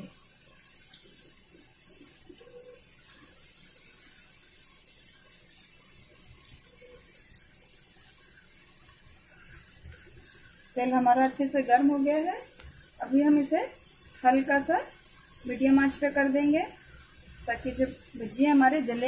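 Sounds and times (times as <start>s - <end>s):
food deep-frying in hot oil: 0.0s - 19.0s.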